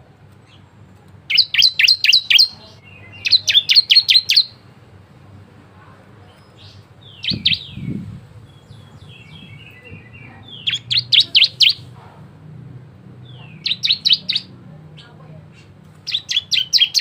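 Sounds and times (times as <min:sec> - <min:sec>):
bird singing: 0:00.4 - 0:04.6, 0:06.3 - 0:11.9, 0:13.2 - 0:17.0.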